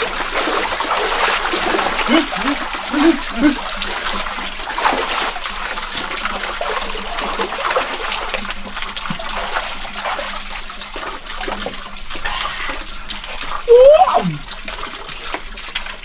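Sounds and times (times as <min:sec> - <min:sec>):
people wading through water: 0:00.0 - 0:14.4
fountain water stream: 0:00.0 - 0:16.0.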